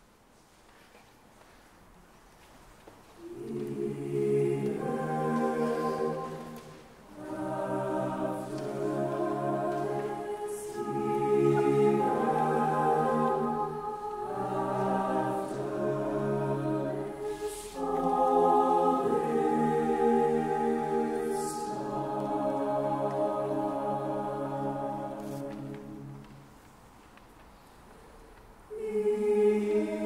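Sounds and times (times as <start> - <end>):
mixed choir singing chords: 3.2 - 26.6, 28.7 - 30.0.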